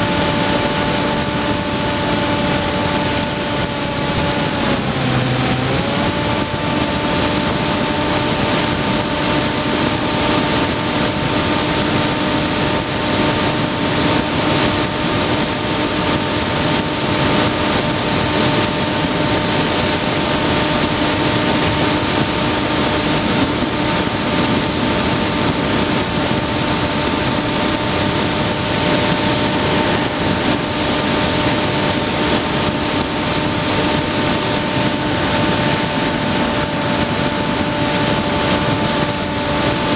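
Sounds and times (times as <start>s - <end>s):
model plane motor and propeller: 0.0s - 39.9s
wind rush: 0.0s - 39.9s.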